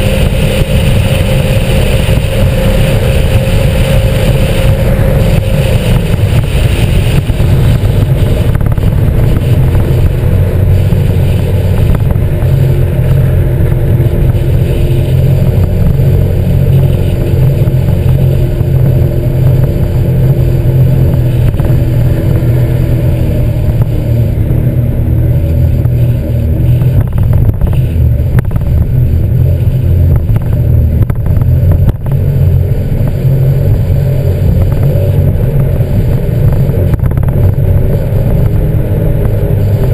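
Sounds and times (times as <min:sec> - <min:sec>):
personal watercraft engine running: 0:00.0 - 0:39.9.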